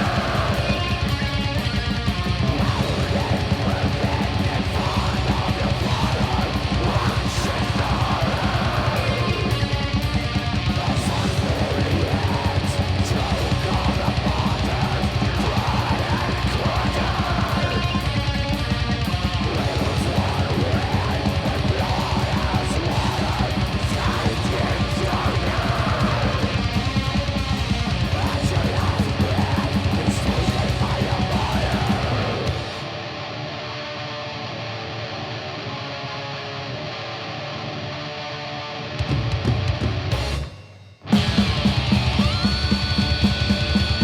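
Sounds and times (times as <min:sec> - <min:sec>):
rock music with guitar: 0:00.0 - 0:44.0.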